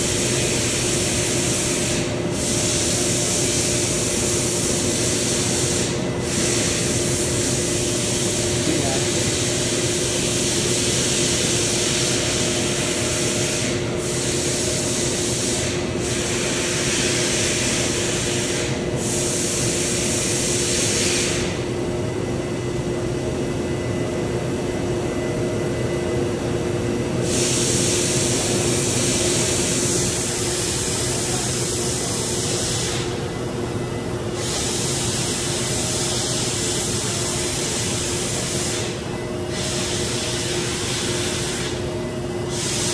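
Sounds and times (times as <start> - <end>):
cnc router hum: 0.0 - 42.9.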